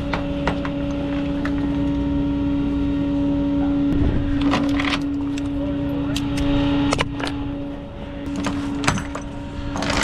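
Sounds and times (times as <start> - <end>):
low engine rumble: 0.0 - 10.0
tow truck whine: 0.0 - 10.0.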